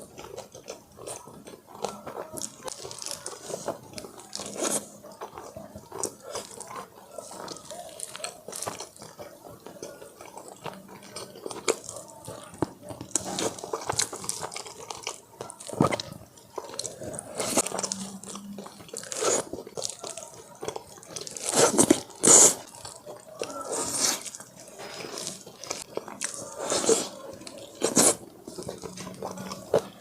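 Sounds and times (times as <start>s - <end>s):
wet chewing: 0.0s - 30.0s
crunching bites: 0.1s - 30.0s.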